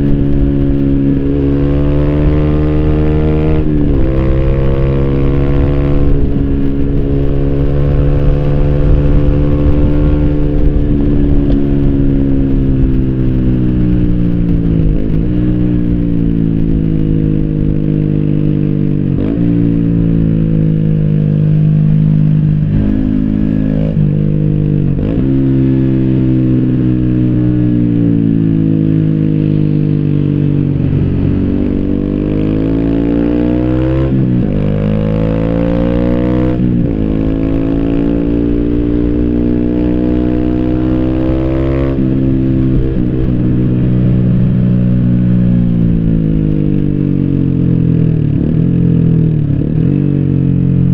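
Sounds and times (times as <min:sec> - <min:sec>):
muffled motorcycle engine accelerating: 0:00.0 - 0:50.9.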